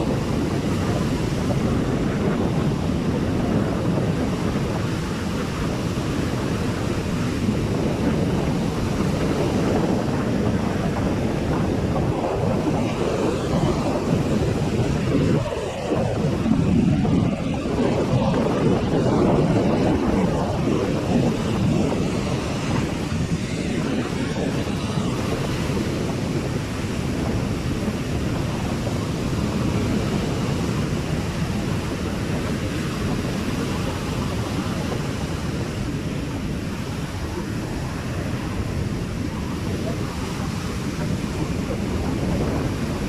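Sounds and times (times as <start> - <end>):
surf rumbling: 0.0 - 43.0
wind buffeting microphone: 0.0 - 43.0.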